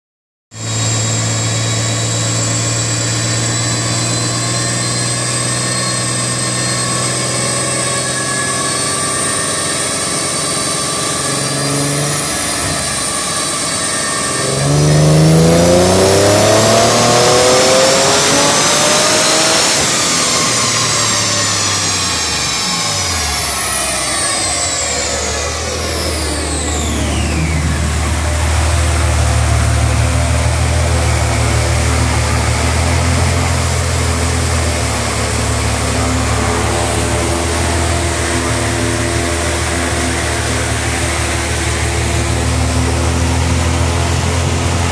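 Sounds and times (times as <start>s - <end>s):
car engine on dyno: 0.5s - 44.9s
high engine whine: 0.5s - 44.9s.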